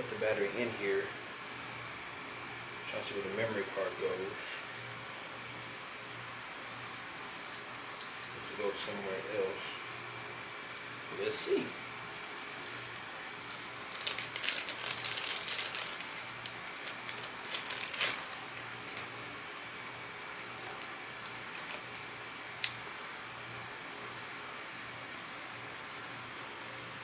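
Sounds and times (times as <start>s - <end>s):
steady room hum: 0.0s - 27.0s.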